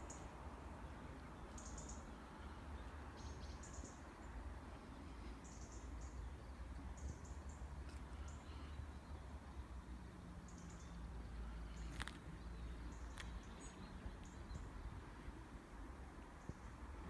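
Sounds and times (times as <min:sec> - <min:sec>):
small birds chirping: 0:00.0 - 0:15.2.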